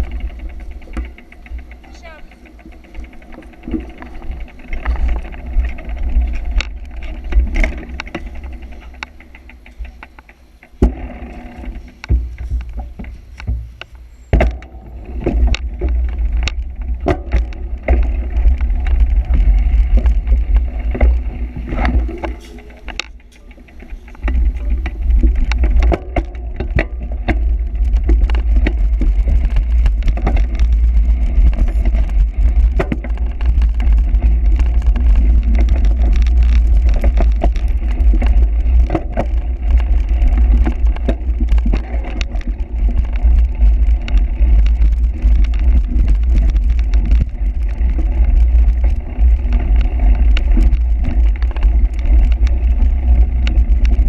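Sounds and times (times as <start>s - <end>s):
bike rattling clicks: 0.0s - 54.0s
wind rumble on microphone: 0.0s - 54.0s.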